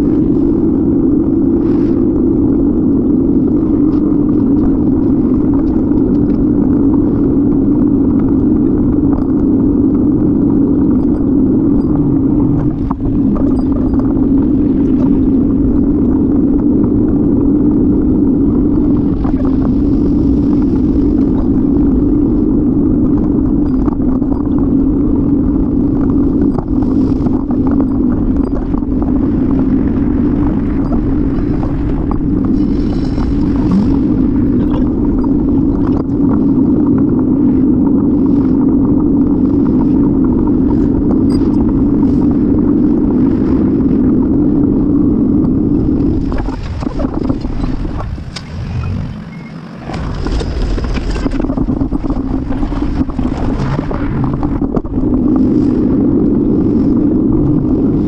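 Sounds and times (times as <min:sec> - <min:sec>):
bicycle road rumble: 0:00.0 - 0:58.0
wind on microphone: 0:00.0 - 0:58.0.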